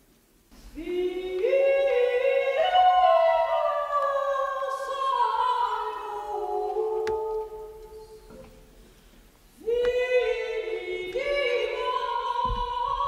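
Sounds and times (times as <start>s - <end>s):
operatic soprano singing: 0.7s - 8.5s, 9.6s - 13.0s.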